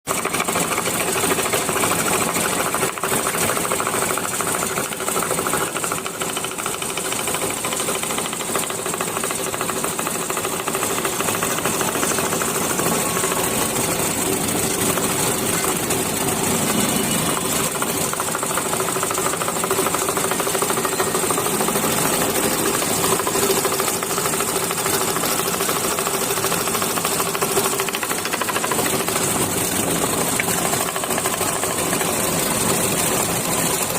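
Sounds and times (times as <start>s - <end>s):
power saw cutting wood: 0.1s - 33.9s.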